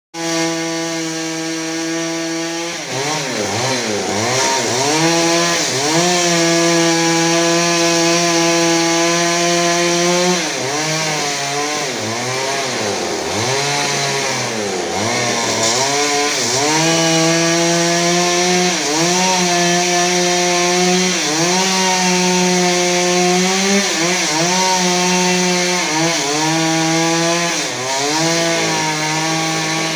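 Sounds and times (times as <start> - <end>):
chainsaw cutting wood: 0.2 - 29.9.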